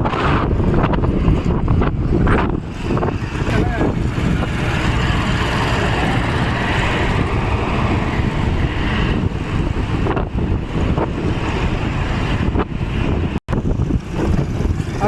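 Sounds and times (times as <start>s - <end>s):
road rumble: 0.0s - 15.0s
wind buffeting the microphone: 0.0s - 15.0s.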